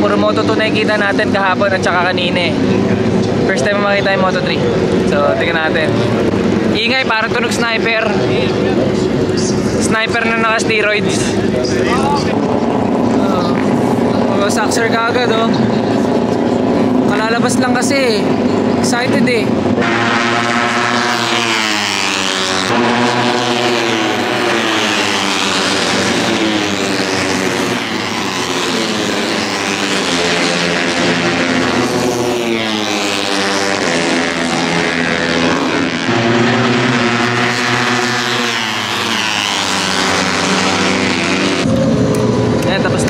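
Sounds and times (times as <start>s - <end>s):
racing motorcycles passing: 0.0s - 43.0s.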